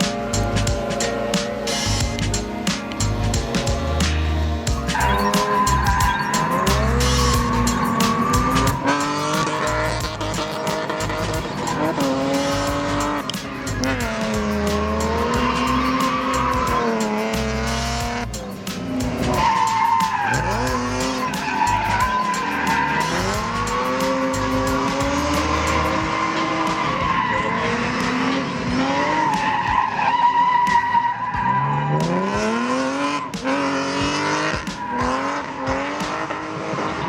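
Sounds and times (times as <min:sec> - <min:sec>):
car engines revving: 0:00.0 - 0:37.0
tires squealing: 0:00.0 - 0:37.0.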